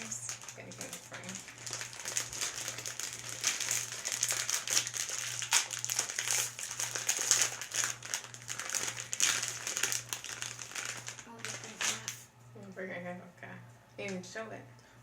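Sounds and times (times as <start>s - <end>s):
snack wrapper crinkling: 0.0s - 12.3s.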